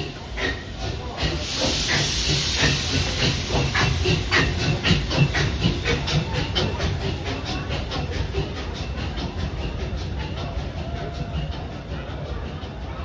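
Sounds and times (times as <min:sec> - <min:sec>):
loud steam hiss: 0:00.0 - 0:12.7
steam locomotive exhaust beats: 0:00.0 - 0:13.0.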